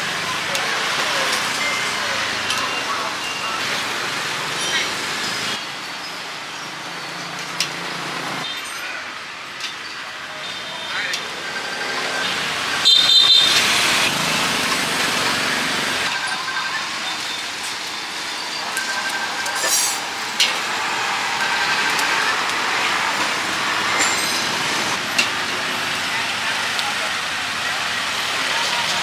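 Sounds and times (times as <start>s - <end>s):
motor traffic passing: 0.0s - 8.5s, 11.1s - 16.1s, 16.8s - 29.0s.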